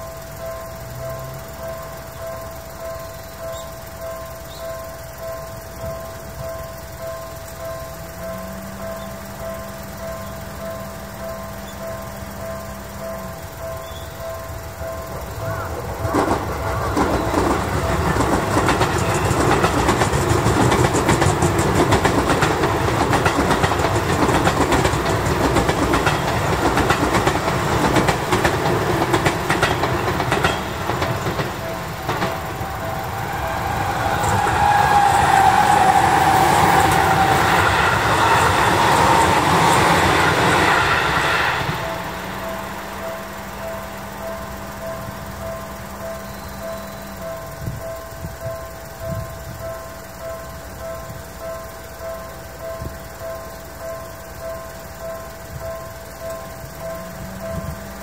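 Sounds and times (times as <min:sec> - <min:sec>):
crossing warning bell ringing: 0:00.0 - 0:58.0
train wheels clattering: 0:00.0 - 0:58.0.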